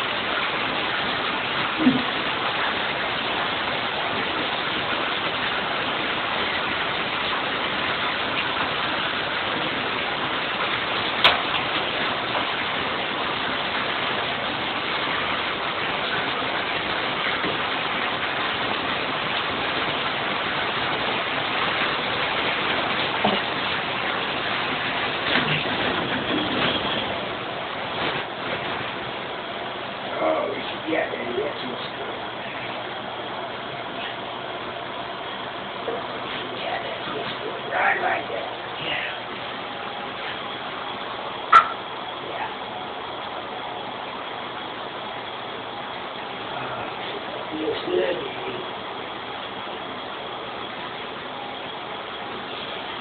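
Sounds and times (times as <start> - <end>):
shower head spraying water: 0.0 - 42.7.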